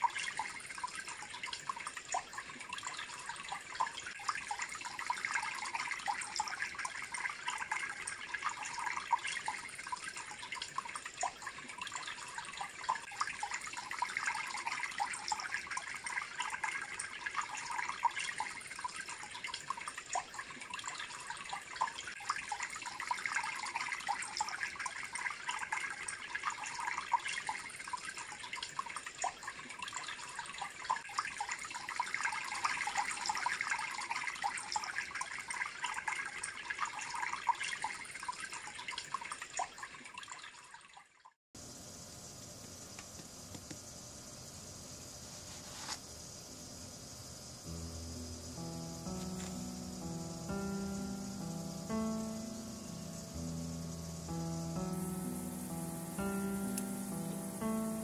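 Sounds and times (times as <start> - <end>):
small water drips: 0.0 - 41.4, 45.1 - 58.0
water trickling and splashing: 0.0 - 58.0.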